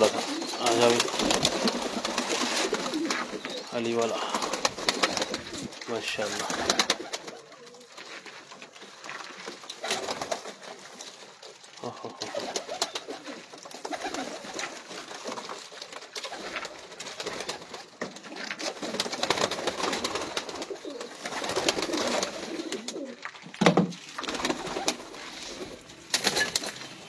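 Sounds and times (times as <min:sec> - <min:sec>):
pigeons cooing: 0:00.0 - 0:08.0, 0:11.8 - 0:15.5, 0:16.2 - 0:23.3, 0:24.2 - 0:27.0
wings flapping: 0:00.0 - 0:27.0.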